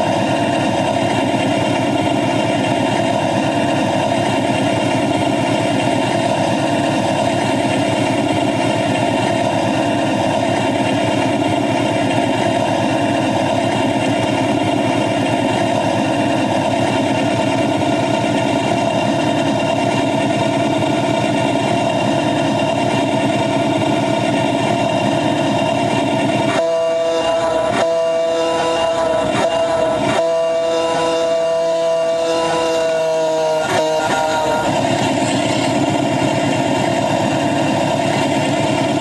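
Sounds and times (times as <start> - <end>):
miniature train engine running: 0.0 - 39.0.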